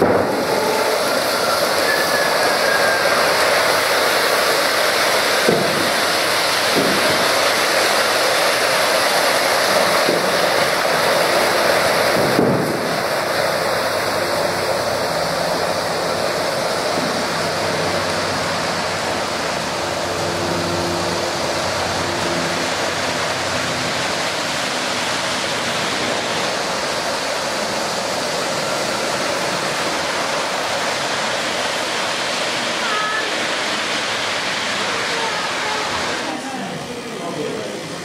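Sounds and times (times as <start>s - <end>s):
model train wheels and motors whirring: 0.0s - 38.0s.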